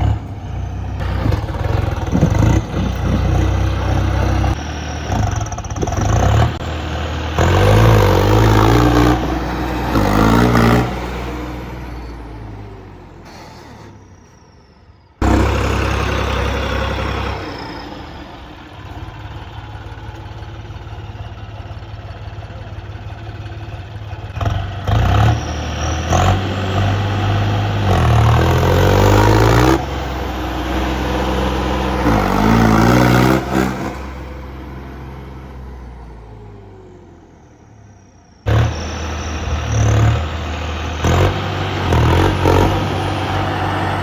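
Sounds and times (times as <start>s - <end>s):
tractor engine revving: 0.0s - 14.5s, 15.2s - 44.0s.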